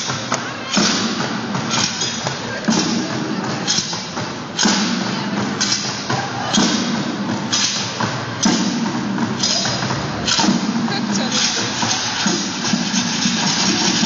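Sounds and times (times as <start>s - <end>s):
bucket drumming ensemble: 0.0s - 14.0s
hand percussion: 0.0s - 14.0s.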